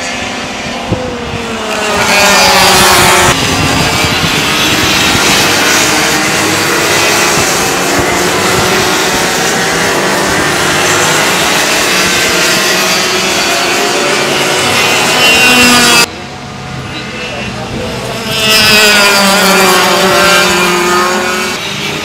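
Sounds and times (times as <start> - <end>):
kart engines buzzing at high revs: 0.0 - 22.0.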